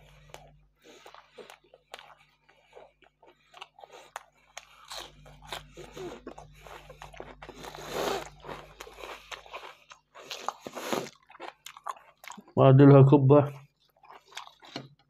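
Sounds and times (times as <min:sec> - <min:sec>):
biting and chewing: 0:00.0 - 0:12.6, 0:13.6 - 0:15.0.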